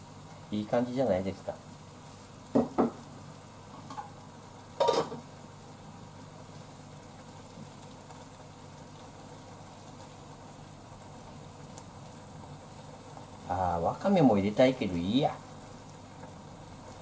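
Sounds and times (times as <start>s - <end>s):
pot simmering with low sizzle: 0.0s - 17.0s.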